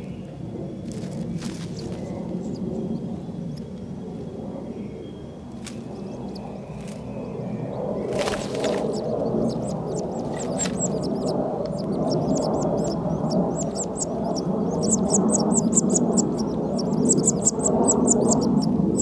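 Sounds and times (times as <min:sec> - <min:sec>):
nestlings peeping: 0:00.0 - 0:19.0.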